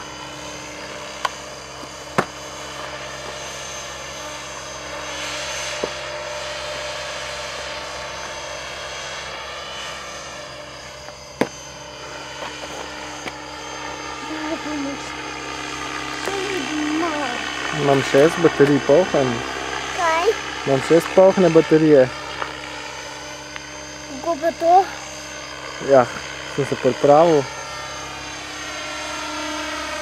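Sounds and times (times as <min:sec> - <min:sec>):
model helicopter drone: 0:00.0 - 0:30.0.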